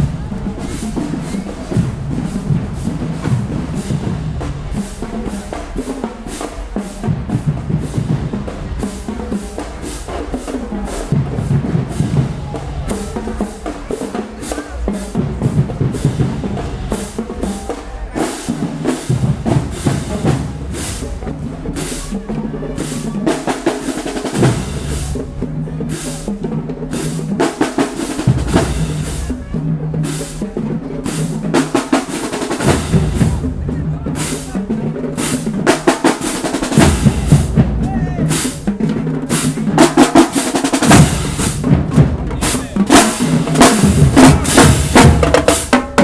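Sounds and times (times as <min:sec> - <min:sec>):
marching band playing: 0:00.0 - 0:46.0
snare and bass drums beating: 0:00.0 - 0:46.0.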